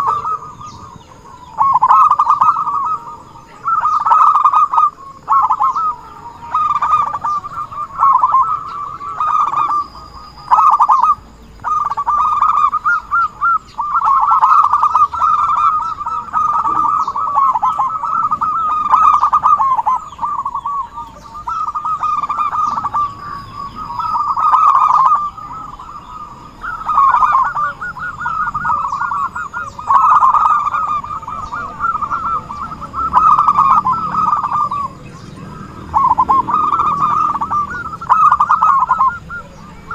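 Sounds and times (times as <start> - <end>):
dove trilling coos: 0.0 - 39.9.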